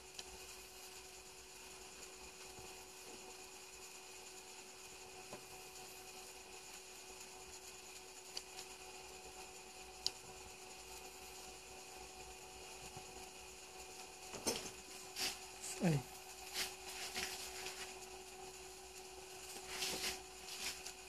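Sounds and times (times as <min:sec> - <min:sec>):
faint electrical hum with whine: 0:00.0 - 0:21.0.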